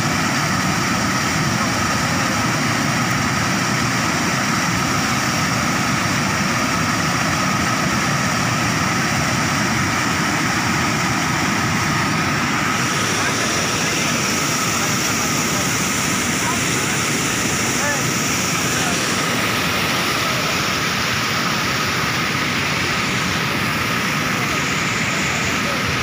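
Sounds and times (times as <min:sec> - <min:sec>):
water rushing over spillway: 0:00.0 - 0:26.0.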